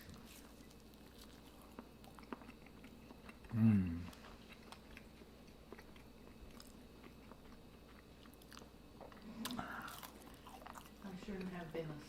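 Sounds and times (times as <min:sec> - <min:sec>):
chewing and mouth sounds: 0:00.0 - 0:11.6.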